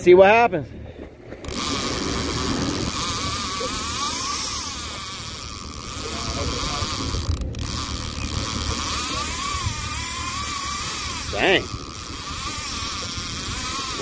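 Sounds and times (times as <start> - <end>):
outboard motor rumble: 0.0 - 14.0
fishing reel drag buzzing: 1.4 - 14.0.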